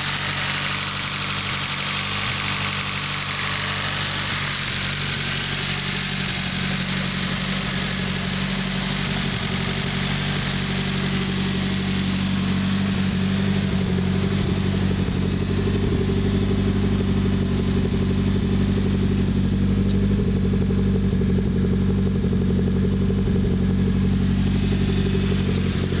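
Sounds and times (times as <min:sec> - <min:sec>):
car engine running: 0:00.0 - 0:26.0
engine ticking: 0:00.0 - 0:26.0.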